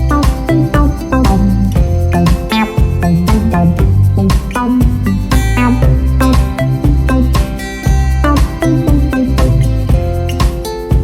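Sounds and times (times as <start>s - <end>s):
plucked guitar: 0.0s - 11.0s
steady bass beat: 0.0s - 11.0s.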